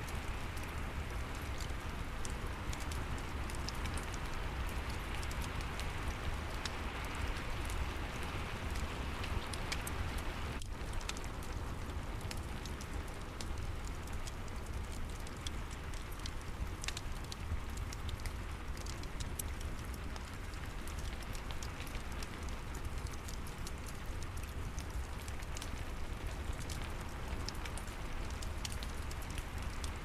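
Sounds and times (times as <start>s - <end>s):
steady rain hiss: 0.0s - 30.0s
wood fire crackling and popping: 0.0s - 30.0s.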